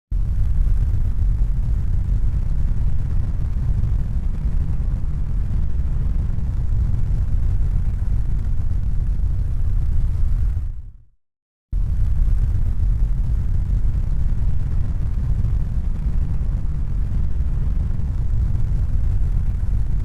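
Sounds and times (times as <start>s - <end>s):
steady low rumble: 0.2s - 11.1s, 11.8s - 20.0s.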